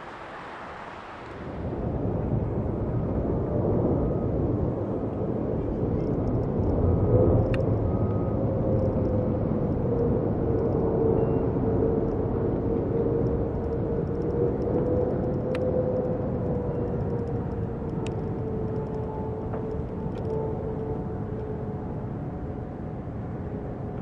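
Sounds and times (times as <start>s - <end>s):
jet engines rumbling and whining: 0.0s - 24.0s.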